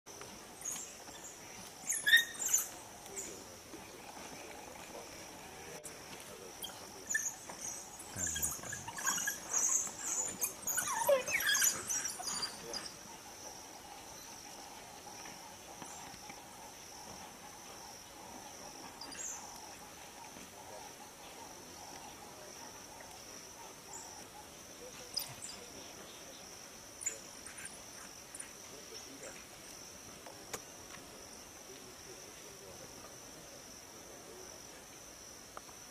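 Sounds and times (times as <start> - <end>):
high insect drone: 0.1 - 35.9
wild dogs twittering and squealing: 0.2 - 29.8.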